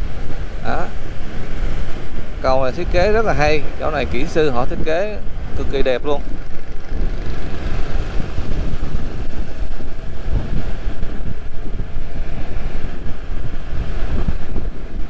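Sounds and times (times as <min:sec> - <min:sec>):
road traffic noise: 0:00.0 - 0:15.0
wind buffeting microphone: 0:00.0 - 0:15.0.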